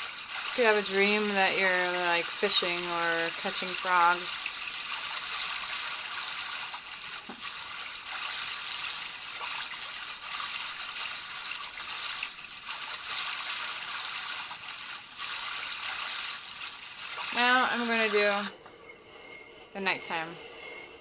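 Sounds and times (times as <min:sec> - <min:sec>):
gurgling trickling stream: 0:00.0 - 0:21.0.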